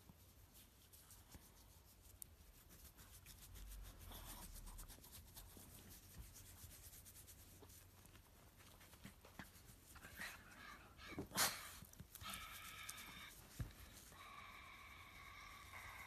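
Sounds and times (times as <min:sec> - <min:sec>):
hand scratching dog fur: 0:00.0 - 0:10.6, 0:11.8 - 0:14.2.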